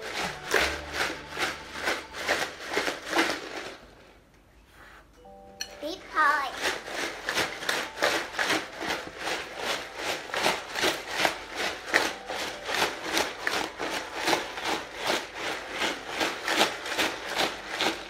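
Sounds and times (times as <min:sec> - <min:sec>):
ice rattling in plastic jar: 0:00.0 - 0:03.9, 0:06.1 - 0:18.0.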